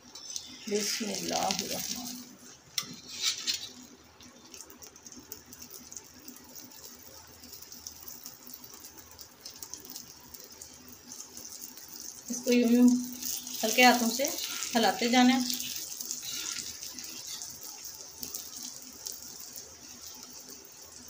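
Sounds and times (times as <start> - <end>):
flatbread sizzling on a griddle: 0.0 - 21.0.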